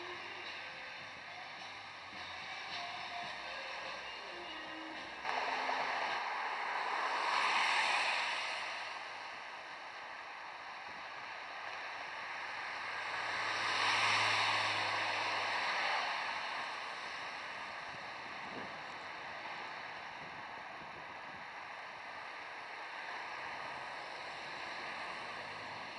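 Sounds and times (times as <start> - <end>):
vehicles passing: 0.0 - 25.9.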